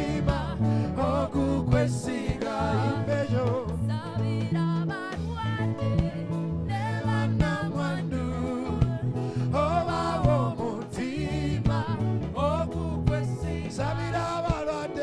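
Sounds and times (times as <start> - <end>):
instrumental backing with pulsing bass: 0.0 - 15.0
person singing gospel: 0.0 - 15.0.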